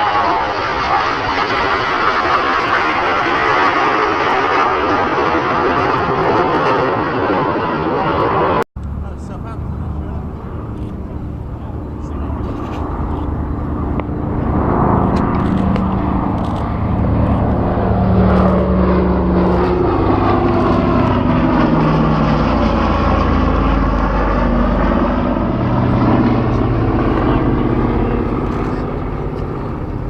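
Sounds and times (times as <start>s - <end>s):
jet engines flying past: 0.0s - 30.0s.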